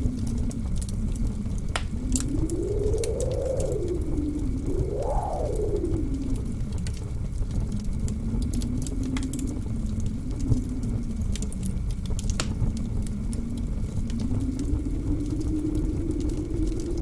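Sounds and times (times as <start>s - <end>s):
wind howling: 0.0s - 17.0s
wood fire crackling and popping: 0.0s - 17.0s.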